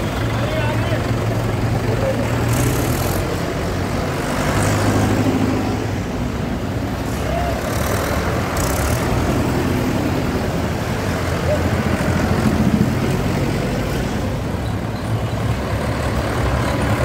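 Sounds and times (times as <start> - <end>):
diesel tractor engines running: 0.0 - 17.0.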